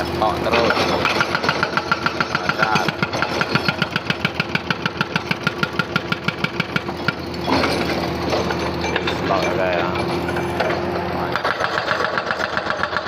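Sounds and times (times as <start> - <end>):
diesel engine running: 0.0 - 13.0
hydraulic breaker hammering rock: 0.0 - 13.0.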